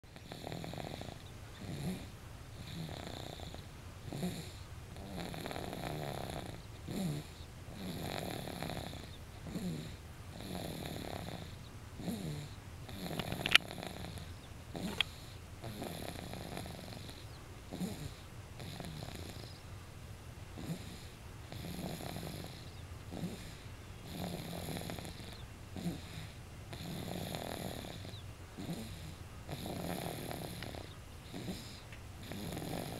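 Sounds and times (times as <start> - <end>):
rhythmic snoring: 0.1 - 19.6, 20.5 - 32.9.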